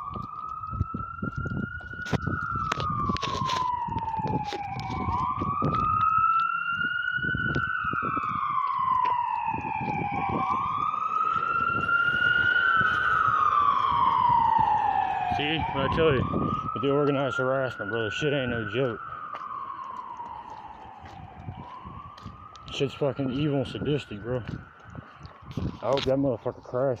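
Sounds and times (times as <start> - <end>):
emergency vehicle siren wailing: 0.0 - 27.0.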